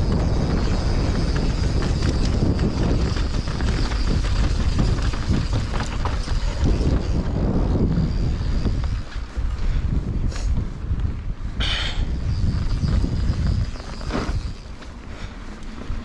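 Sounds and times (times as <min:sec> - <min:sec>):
bike rattles and clicks: 0:00.0 - 0:16.0
bike tyres on dirt trail: 0:00.0 - 0:16.0
wind buffeting microphone: 0:00.0 - 0:16.0.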